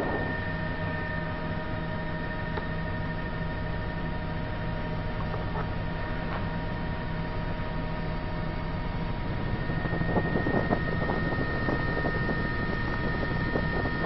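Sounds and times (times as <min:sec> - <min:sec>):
helicopter engine and rotor drone: 0:00.0 - 0:14.0
thin high whine: 0:00.0 - 0:14.0.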